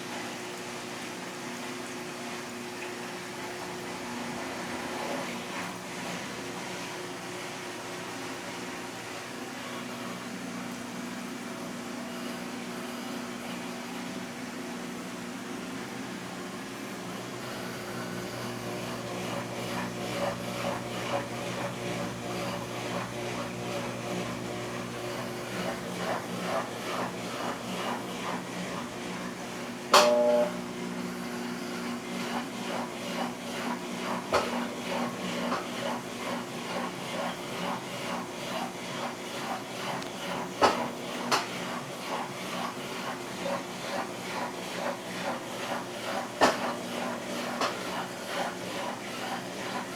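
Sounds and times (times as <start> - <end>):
washing machine motor hum: 0.0 - 49.9.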